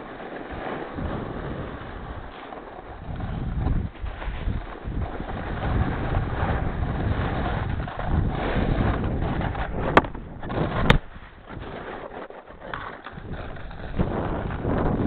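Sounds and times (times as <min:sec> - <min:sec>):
snowboard scraping on snow: 0:00.0 - 0:15.0
wind buffeting microphone: 0:00.0 - 0:15.0.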